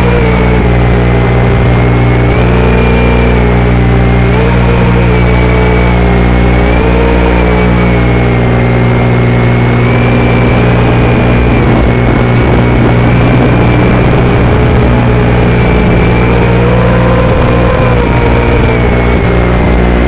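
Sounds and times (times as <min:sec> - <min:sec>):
electrical buzz and hum: 0:00.0 - 0:20.0
thin whines shifting in pitch: 0:00.0 - 0:20.0.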